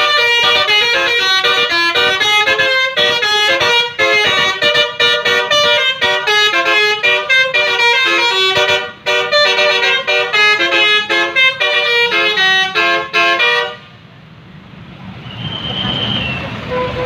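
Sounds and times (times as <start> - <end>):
bus horn playing melody: 0.0 - 14.0, 16.6 - 17.0.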